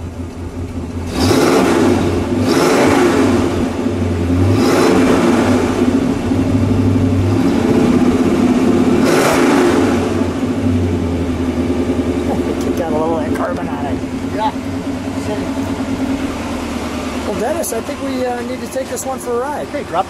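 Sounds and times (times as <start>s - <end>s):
engine idling: 0.0s - 20.0s
vee eight engine revving: 0.9s - 20.0s.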